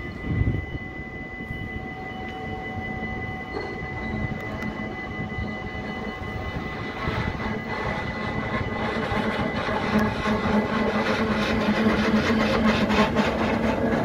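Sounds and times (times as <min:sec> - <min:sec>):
high whine: 0:00.0 - 0:14.0
tram rumbling on track: 0:00.0 - 0:14.0.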